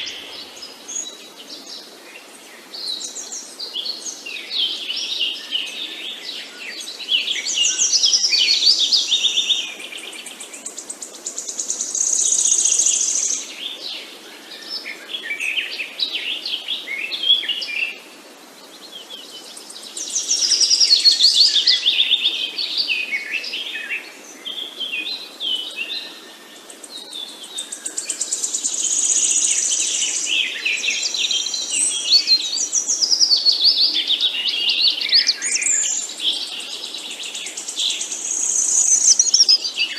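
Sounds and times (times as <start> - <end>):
faint outdoor background: 0.0 - 39.9
songbirds chirping and trilling: 0.0 - 39.9.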